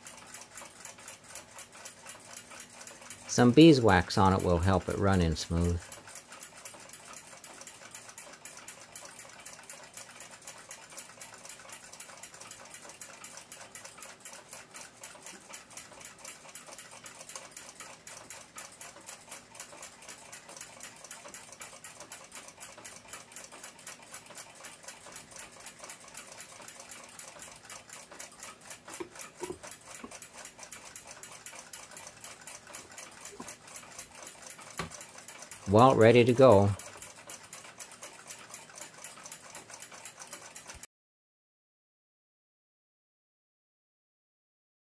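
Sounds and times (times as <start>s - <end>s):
clock ticking rapidly: 0.0s - 40.8s.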